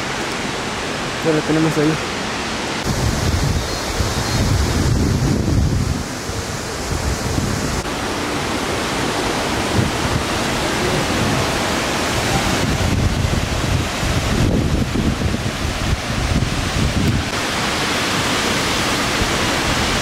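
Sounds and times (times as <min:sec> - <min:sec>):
wind buffeting microphone: 0:02.8 - 0:07.9, 0:08.8 - 0:20.0.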